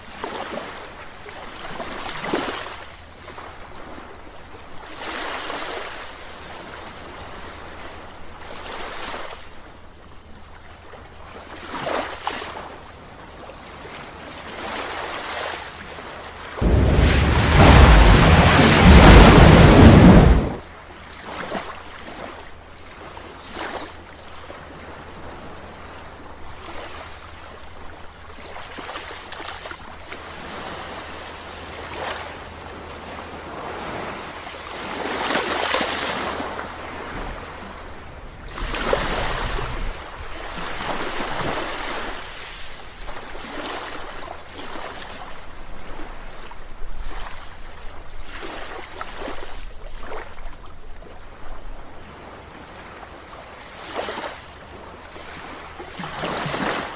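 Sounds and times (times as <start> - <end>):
sea waves breaking on beach: 0.0 - 9.6, 10.6 - 56.9.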